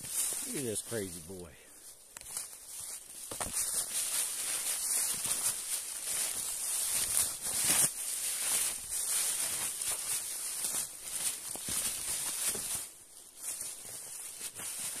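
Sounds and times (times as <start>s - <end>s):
brush rustling: 0.0s - 15.0s
footsteps on loose rock and leaves: 0.0s - 15.0s
steady high-pitched hiss: 0.0s - 15.0s.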